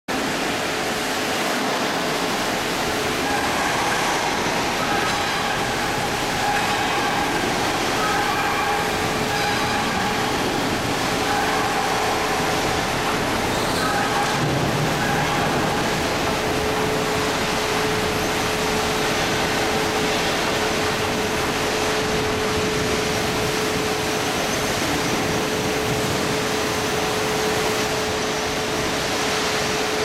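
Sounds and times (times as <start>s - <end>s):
drilling machine whining: 2.1s - 29.8s.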